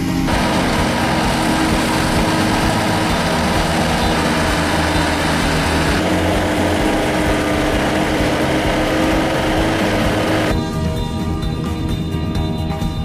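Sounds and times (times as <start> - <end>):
ride-on mower running: 0.0 - 10.6.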